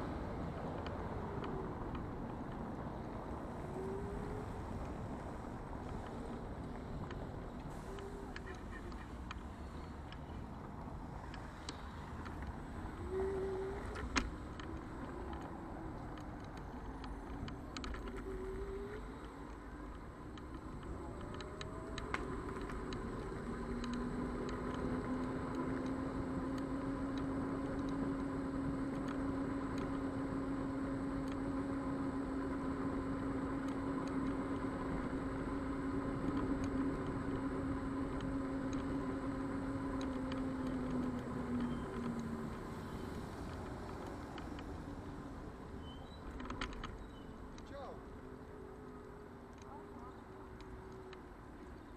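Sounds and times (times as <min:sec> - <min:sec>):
tyre and wind rumble: 0:00.0 - 0:49.6
electric scooter motor whine: 0:00.0 - 0:51.9
light clicks from bumps: 0:00.0 - 0:51.9.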